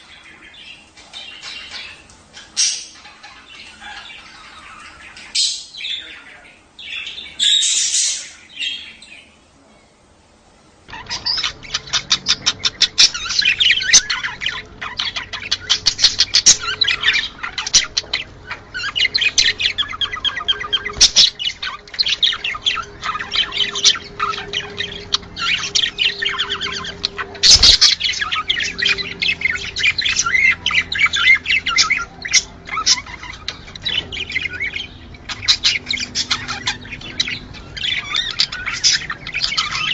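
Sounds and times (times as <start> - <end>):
budgerigars chattering: 0.0 - 9.3, 10.9 - 39.9.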